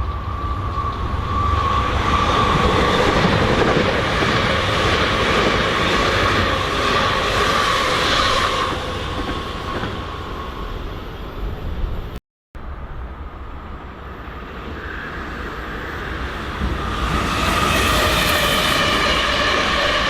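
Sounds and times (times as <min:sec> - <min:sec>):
train rumbling on tracks: 0:00.0 - 0:20.0.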